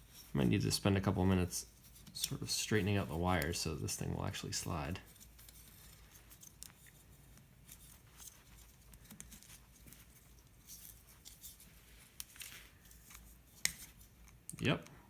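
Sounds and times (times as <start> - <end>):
wires clicking and rustling: 0.0 - 15.0.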